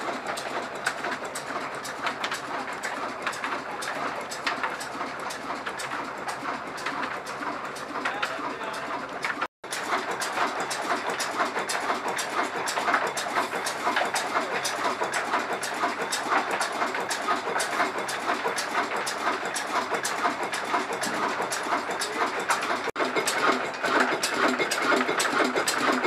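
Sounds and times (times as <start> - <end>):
stationary engine clattering: 0.0 - 26.0.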